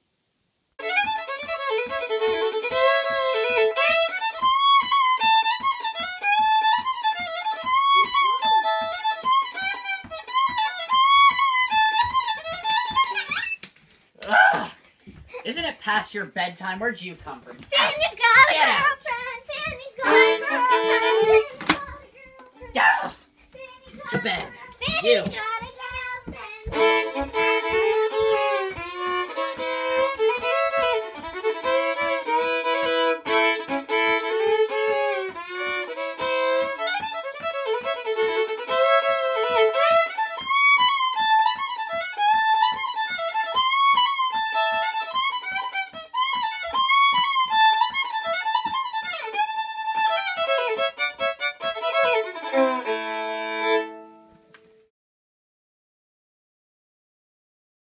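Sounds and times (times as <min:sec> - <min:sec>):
solo fiddle playing: 0:00.8 - 0:13.6, 0:16.8 - 0:22.0, 0:24.0 - 0:54.5.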